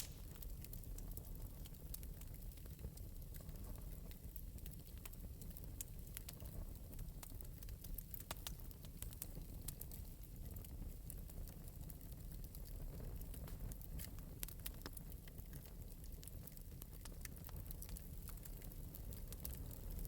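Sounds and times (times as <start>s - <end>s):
fire crackles and pops: 0.0s - 20.0s
wood fire rumbling: 0.0s - 20.0s.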